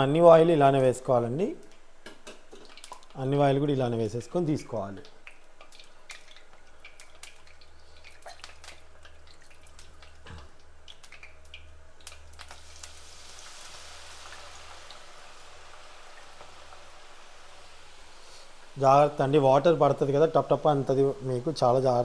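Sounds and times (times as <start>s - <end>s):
potato frying in hot oil: 2.2s - 22.0s.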